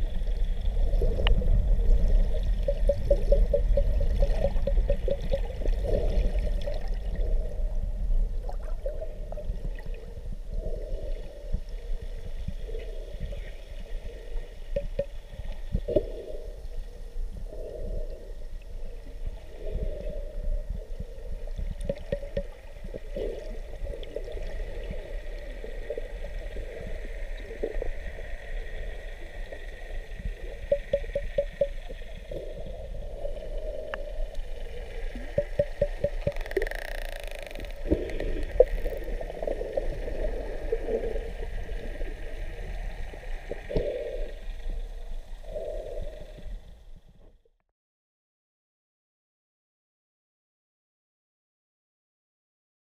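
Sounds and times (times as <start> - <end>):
muffled underwater gurgling: 0.0 - 46.8
low underwater rumble: 0.0 - 47.5.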